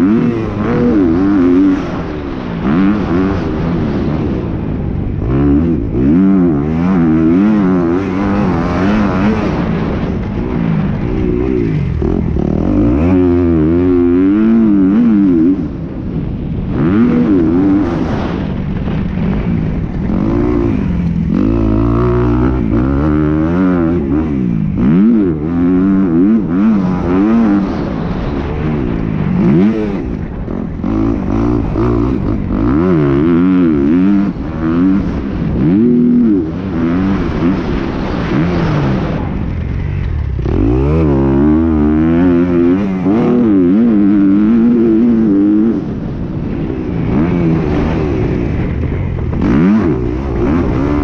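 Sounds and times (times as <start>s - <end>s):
motorbike engine revving: 0.0s - 51.0s.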